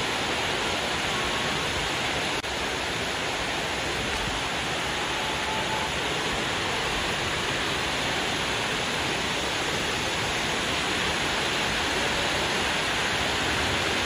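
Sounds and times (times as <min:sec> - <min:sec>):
waterfall rushing into a pool: 0:00.0 - 0:14.0.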